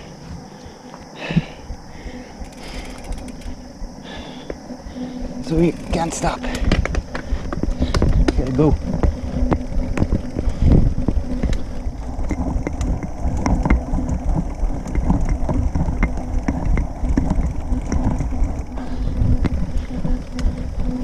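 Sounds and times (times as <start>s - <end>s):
wind rumble on microphone: 0.0s - 21.0s
bike tyres rattling over stones: 1.2s - 21.0s.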